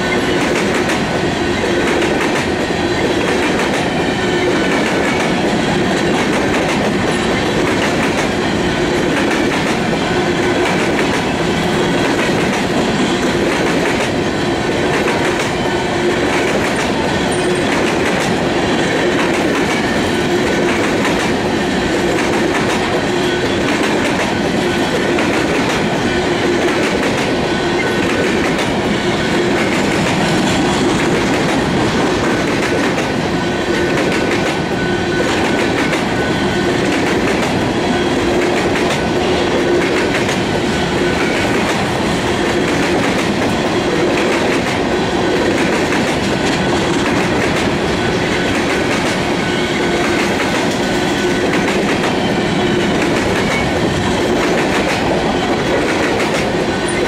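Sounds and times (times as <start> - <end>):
clickety-clack over rail joints: 0.0 - 57.0
steel wheels rumbling on rail: 0.0 - 57.0.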